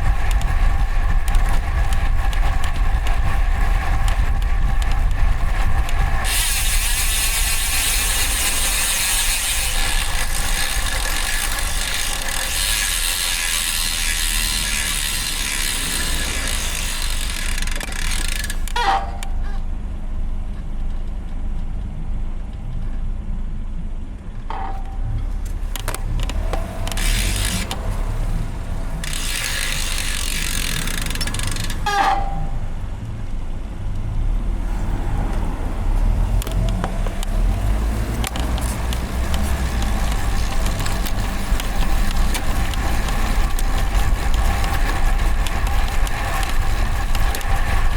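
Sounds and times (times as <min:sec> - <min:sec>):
freehub ratchet buzzing: 0:00.0 - 0:19.6, 0:25.7 - 0:33.0, 0:35.3 - 0:47.9
tyre and road rumble: 0:00.0 - 0:47.9.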